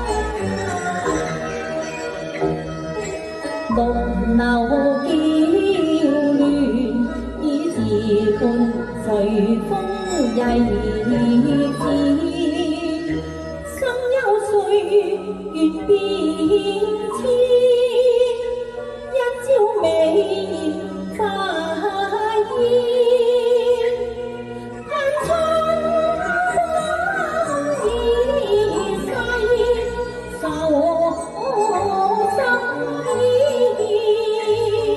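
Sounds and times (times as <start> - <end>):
instrumental accompaniment: 0.0 - 34.9
opera singing: 3.7 - 34.9.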